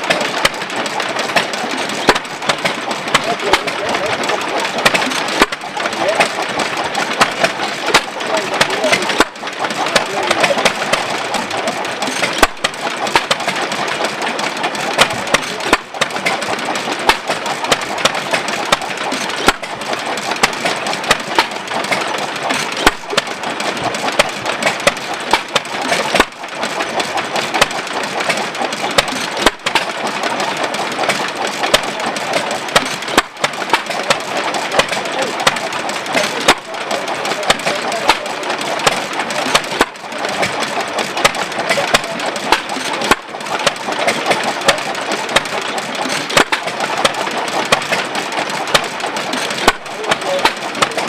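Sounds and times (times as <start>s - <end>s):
engine firing stroke: 0.0s - 51.0s
rapid mechanical clatter: 0.0s - 51.0s.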